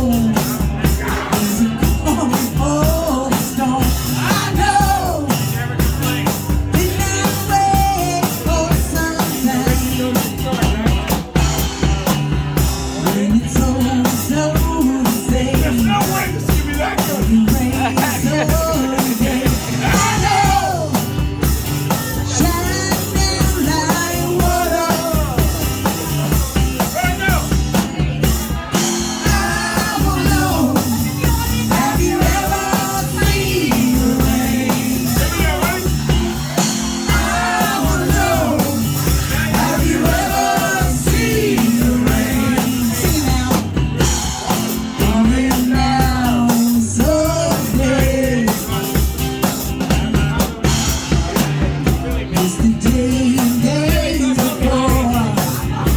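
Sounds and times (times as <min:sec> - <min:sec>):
backing instruments: 0:00.0 - 0:55.9
steady drum beat: 0:00.0 - 0:55.9
sung lead vocal: 0:00.0 - 0:55.9.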